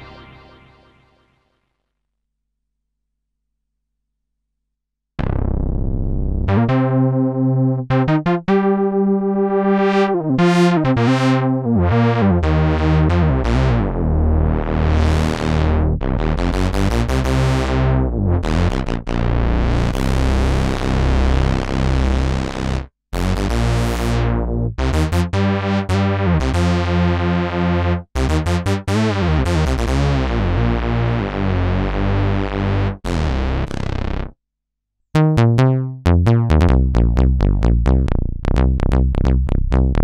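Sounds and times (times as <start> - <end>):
low synth bass notes: 0.0 - 1.1, 5.2 - 34.3, 35.2 - 40.0
synthesizer chords: 0.0 - 1.4, 5.2 - 21.1, 23.2 - 33.8, 35.2 - 40.0.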